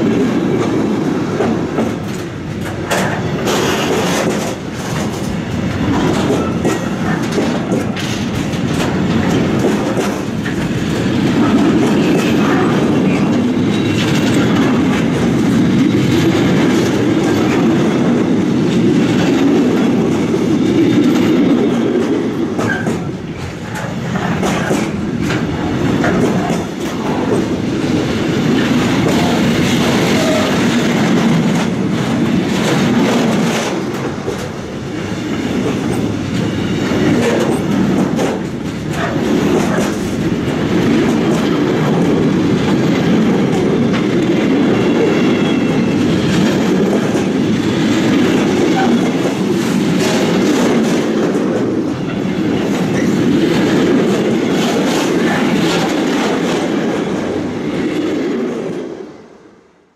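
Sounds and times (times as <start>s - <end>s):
train wheels rumbling on rails: 0.0s - 59.9s
wheels clicking over rail joints: 0.2s - 57.4s.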